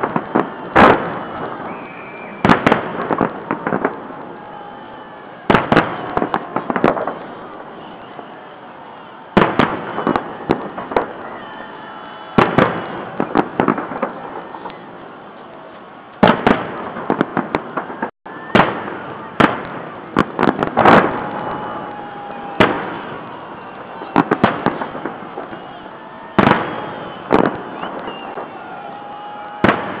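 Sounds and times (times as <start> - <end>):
background noise: 0.0 - 30.0
firework crackling: 0.0 - 30.0.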